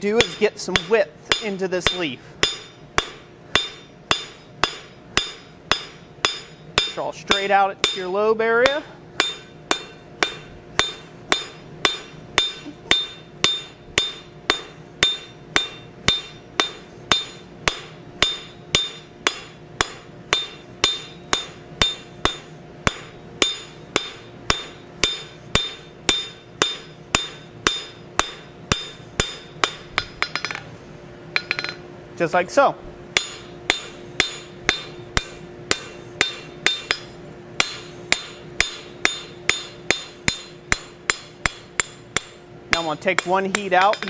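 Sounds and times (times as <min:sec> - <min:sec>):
hammer striking hot steel on anvil: 0:00.0 - 0:30.7, 0:31.4 - 0:31.9, 0:33.1 - 0:44.0
anvil ringing: 0:00.1 - 0:08.2, 0:09.2 - 0:30.7, 0:31.4 - 0:31.9, 0:33.2 - 0:44.0.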